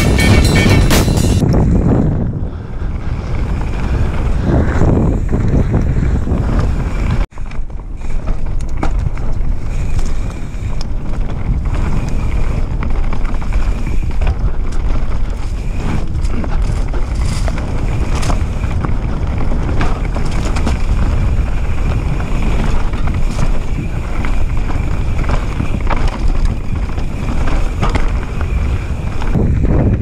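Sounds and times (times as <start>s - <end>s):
bike tyres rumbling and rattling: 0.0s - 30.0s
wind on microphone: 0.0s - 30.0s.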